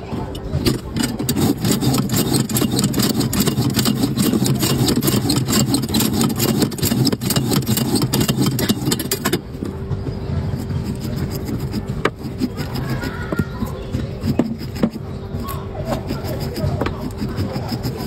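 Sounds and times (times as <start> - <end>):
peeling machine hum: 0.0 - 18.0
blade shaving fruit skin: 0.4 - 9.5, 10.5 - 18.0.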